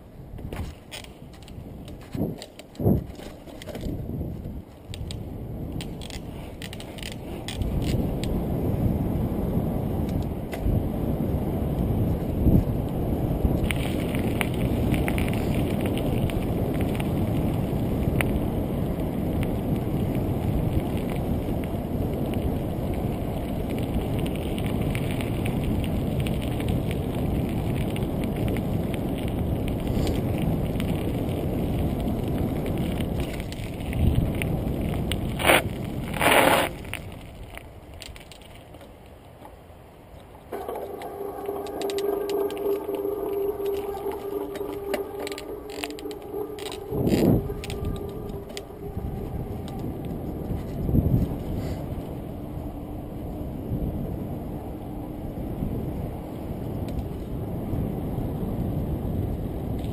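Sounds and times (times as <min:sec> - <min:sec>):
wind rushing over microphone: 0:00.0 - 0:38.5, 0:40.5 - 0:59.9
bicycle tyre rumble: 0:00.0 - 0:59.9
bicycle drivetrain whirring: 0:00.6 - 0:38.9, 0:40.5 - 0:59.9.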